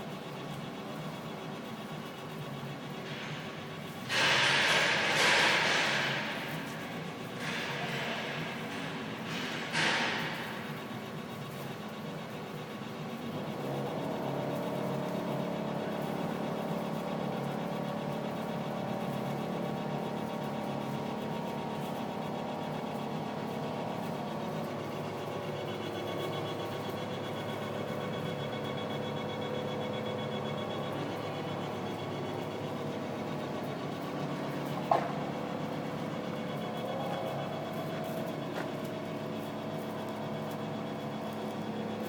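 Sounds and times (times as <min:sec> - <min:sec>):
wire-stripping machine motor hum: 0:02.6 - 0:42.0.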